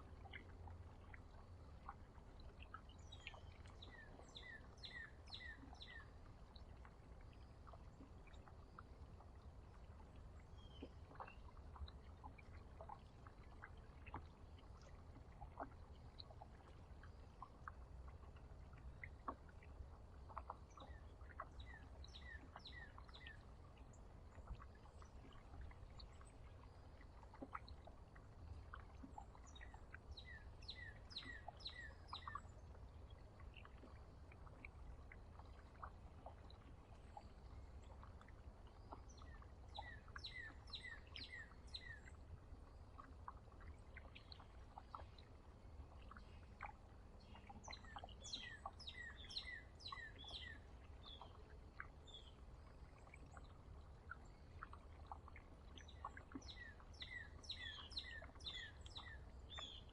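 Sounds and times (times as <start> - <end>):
low steady rumble: 0.0 - 59.9
songbirds chirping: 0.0 - 59.9.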